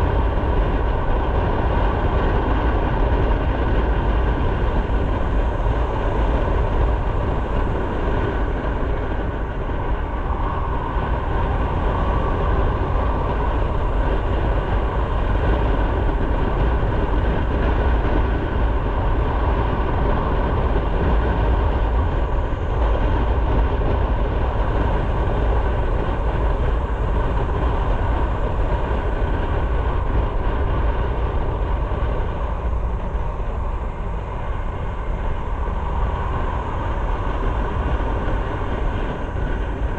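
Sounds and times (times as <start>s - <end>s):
motorcycle engine rumble: 0.0s - 39.9s
wind noise on microphone: 0.0s - 39.9s.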